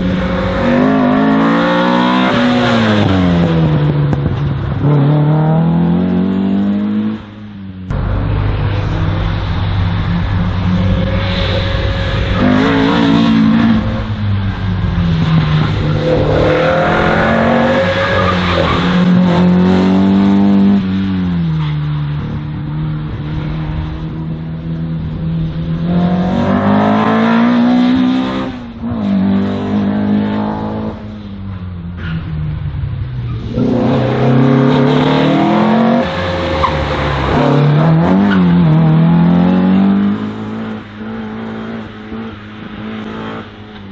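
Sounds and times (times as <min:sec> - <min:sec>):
race car engine revving: 0:00.0 - 0:31.3, 0:32.0 - 0:43.9.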